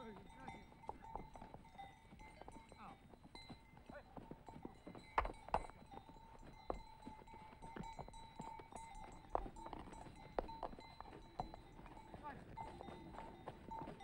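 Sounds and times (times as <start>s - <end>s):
hooves clopping on stones: 0.0s - 14.0s.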